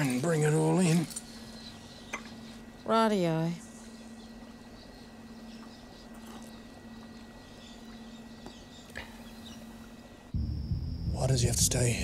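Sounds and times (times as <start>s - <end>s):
steady low hum: 0.0s - 12.0s
faint bird chirps: 1.2s - 11.4s.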